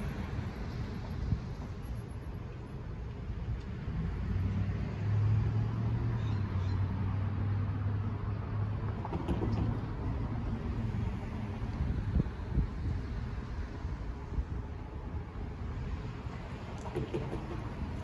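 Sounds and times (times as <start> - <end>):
low street rumble: 0.0 - 18.0
vehicle engine hum: 0.0 - 18.0.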